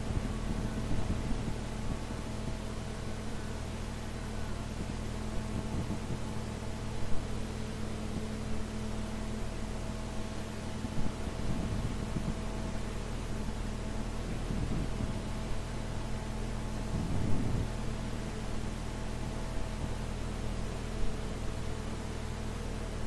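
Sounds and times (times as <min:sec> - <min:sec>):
recording hiss and hum: 0:00.0 - 0:23.0.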